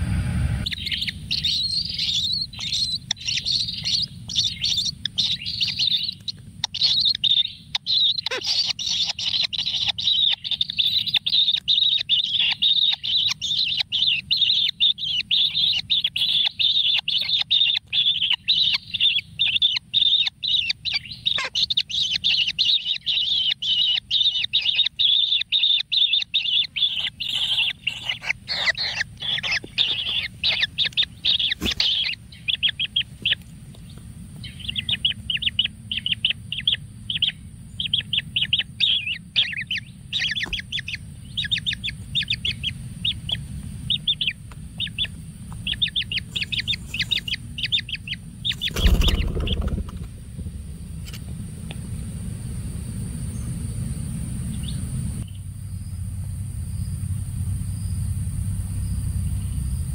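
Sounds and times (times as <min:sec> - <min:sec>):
nestling begging chirps: 0:00.6 - 0:59.9.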